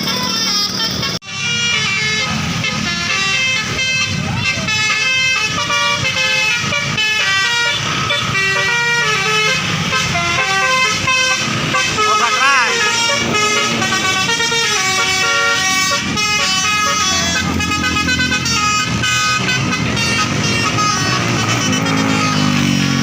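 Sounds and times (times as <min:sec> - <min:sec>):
bus engine running: 0:00.0 - 0:23.0
bus horn playing a tune: 0:00.0 - 0:23.0.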